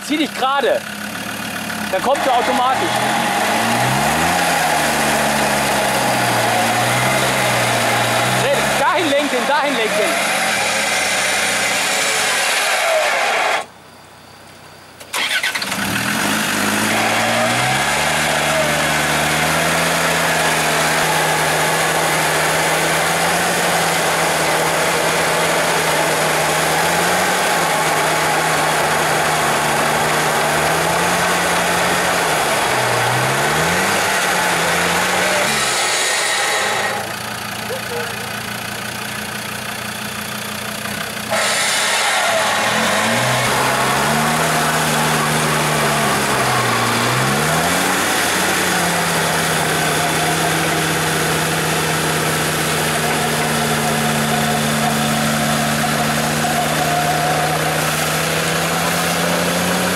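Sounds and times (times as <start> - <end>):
diesel engine revving: 0.0 - 13.8, 15.0 - 59.9.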